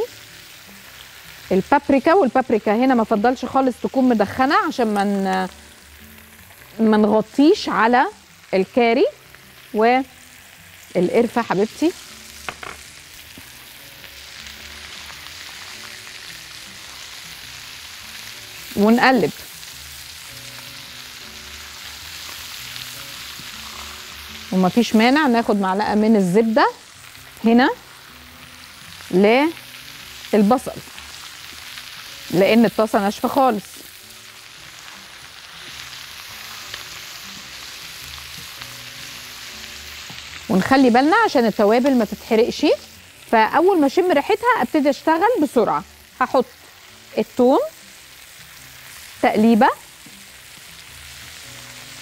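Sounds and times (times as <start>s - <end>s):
chicken sizzling in a frying pan: 0.0s - 52.0s
faint background music: 0.0s - 52.0s.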